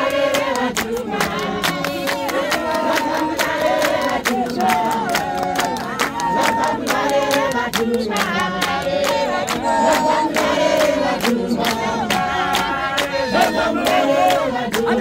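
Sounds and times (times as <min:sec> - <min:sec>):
congregation singing a hymn: 0:00.0 - 0:15.0
fast hand clapping: 0:00.0 - 0:15.0.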